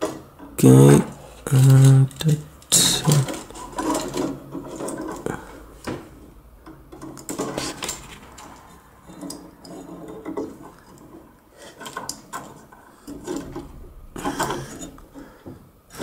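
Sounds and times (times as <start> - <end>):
metal terminals clicking and scraping: 0.0 - 15.3.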